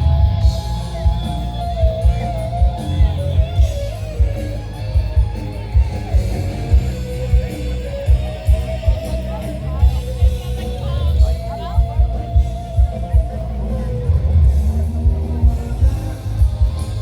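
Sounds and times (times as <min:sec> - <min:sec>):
bass: 0:00.0 - 0:17.0
electric guitar lead: 0:00.0 - 0:17.0
steady drum beat: 0:00.0 - 0:17.0.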